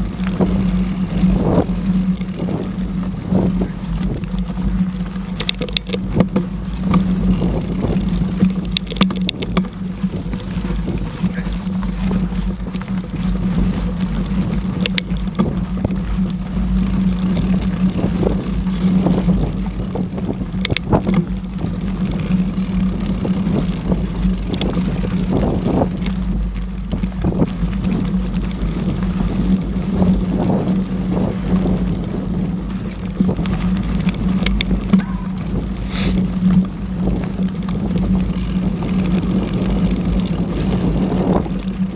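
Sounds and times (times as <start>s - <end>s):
bike knocks and rattles: 0.0s - 41.9s
wind rumble on microphone: 0.0s - 41.9s.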